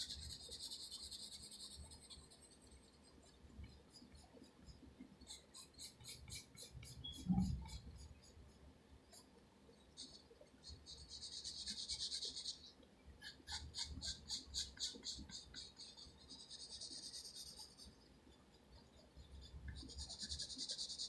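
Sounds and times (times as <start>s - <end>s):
pencil scratching on paper: 0.0s - 9.4s, 10.0s - 21.0s.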